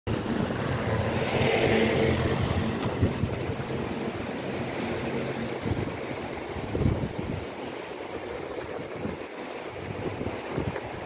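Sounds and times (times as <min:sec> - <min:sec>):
river rushing: 0:00.1 - 0:11.0.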